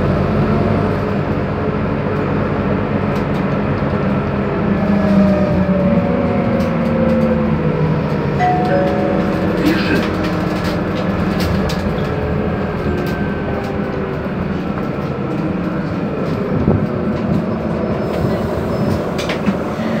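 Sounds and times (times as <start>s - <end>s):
bus engine hum: 0.0s - 20.0s
road noise: 0.0s - 20.0s.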